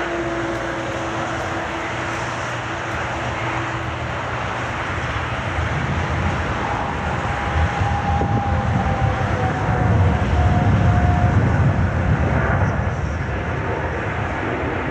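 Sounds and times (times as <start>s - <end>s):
aircraft engine rumble: 0.0s - 14.9s.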